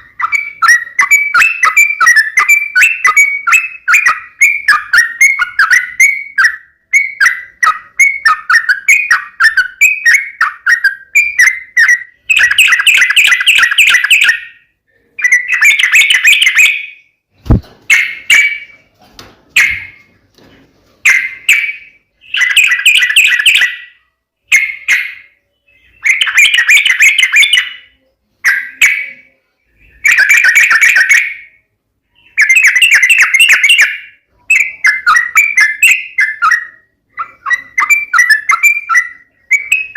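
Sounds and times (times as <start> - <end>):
bird singing loudly: 0.0 - 18.7, 21.1 - 31.6, 32.2 - 39.9.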